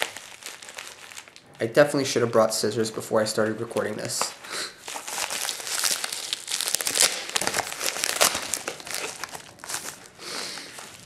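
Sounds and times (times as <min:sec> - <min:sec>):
plastic packaging crinkling: 0:00.0 - 0:01.8, 0:03.3 - 0:11.0.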